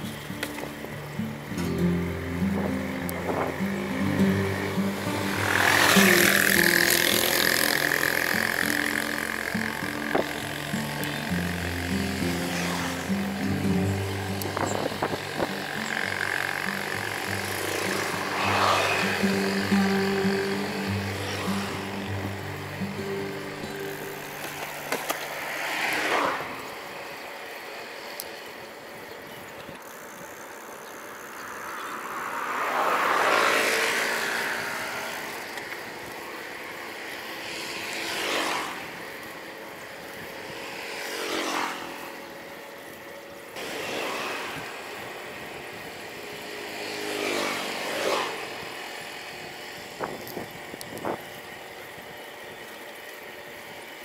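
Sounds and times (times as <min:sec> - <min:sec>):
vehicles passing by: 0:00.0 - 0:54.0.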